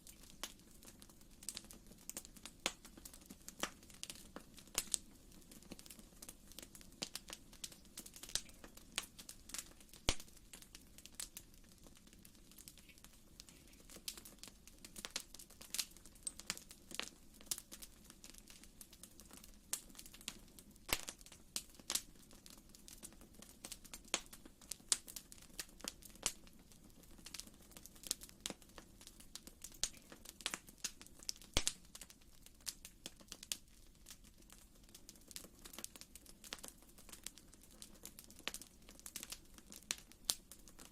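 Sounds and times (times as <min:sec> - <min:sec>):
wood fire crackling in fireplace: 0:00.0 - 0:40.9.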